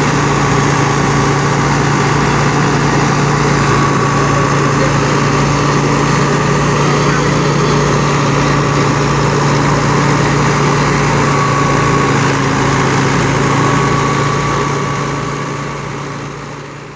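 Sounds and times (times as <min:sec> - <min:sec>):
threshing drum churning: 0:00.0 - 0:16.1
tractor diesel engine under load: 0:00.0 - 0:16.9.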